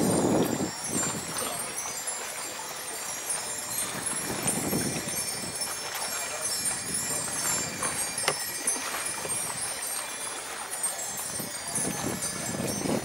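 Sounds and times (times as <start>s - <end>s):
wind bells tinkling: 0.0s - 13.0s.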